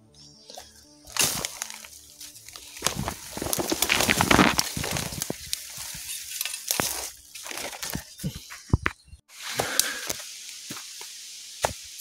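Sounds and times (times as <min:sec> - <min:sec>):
footsteps through leaf litter: 0:00.6 - 0:08.2, 0:09.3 - 0:12.0.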